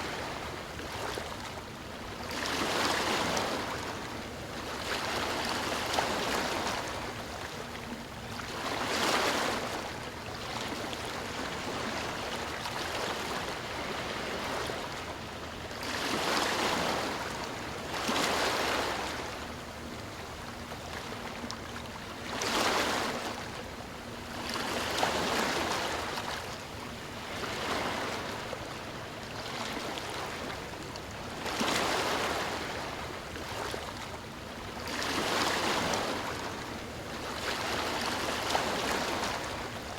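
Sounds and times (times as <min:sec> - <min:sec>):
ocean waves breaking: 0:00.0 - 0:34.1, 0:34.8 - 0:39.9.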